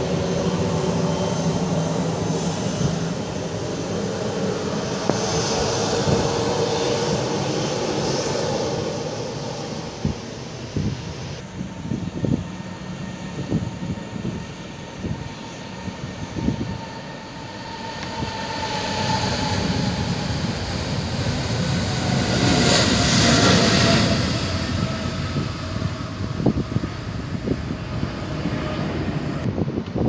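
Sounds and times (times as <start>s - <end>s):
wind gusts buffeting microphone: 0.0s - 17.2s, 17.8s - 30.0s
jet engines roaring at takeoff: 0.0s - 30.0s.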